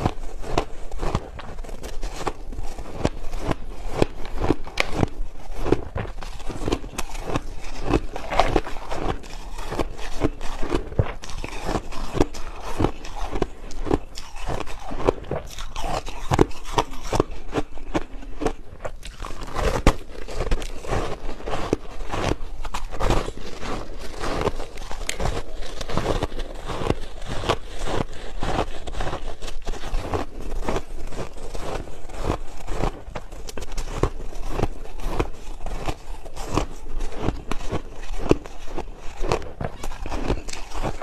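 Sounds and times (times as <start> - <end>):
ice being chewed: 0.0 - 41.0.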